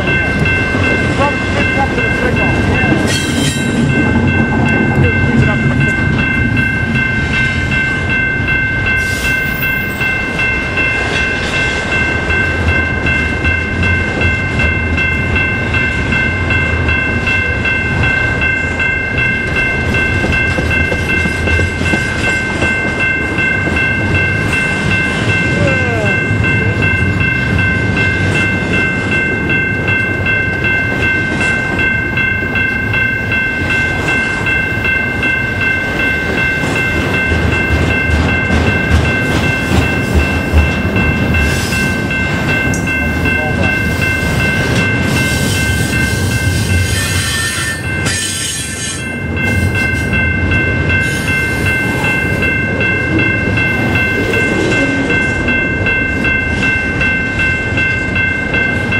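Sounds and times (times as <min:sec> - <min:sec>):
train wheels rumbling on rail: 0:00.0 - 0:58.9.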